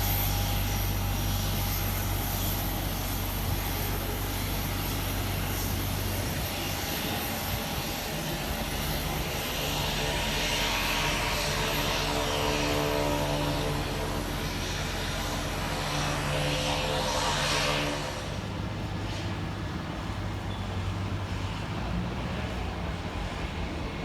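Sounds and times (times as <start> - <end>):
aircraft engine droning: 0.0 - 24.0
approaching aircraft engine tones: 0.0 - 24.0.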